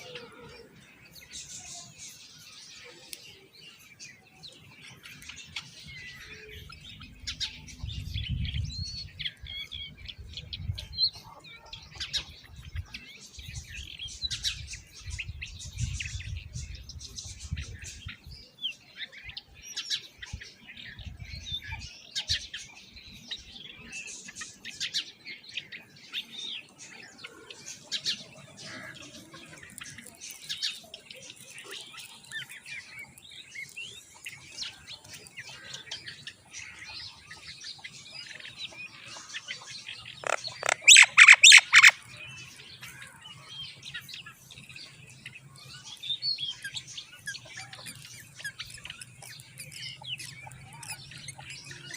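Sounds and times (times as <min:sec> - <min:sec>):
baby birds chirping and squawking: 0:00.0 - 0:02.6, 0:04.3 - 0:51.9.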